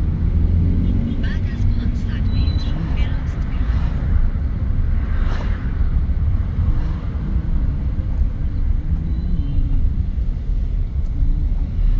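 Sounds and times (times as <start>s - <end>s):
car engine rumbling: 0.0s - 11.9s
road noise inside car: 0.0s - 11.9s.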